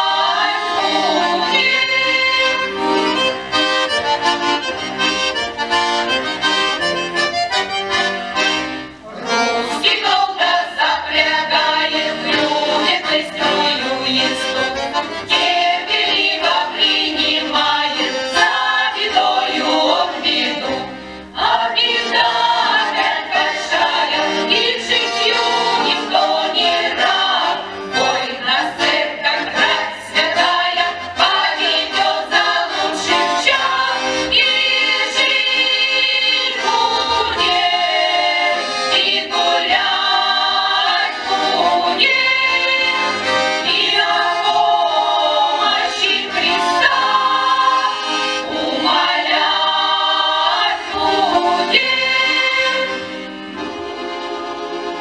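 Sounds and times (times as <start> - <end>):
women's choir singing: 0.0 - 6.6, 9.3 - 55.0
button accordion: 0.0 - 55.0.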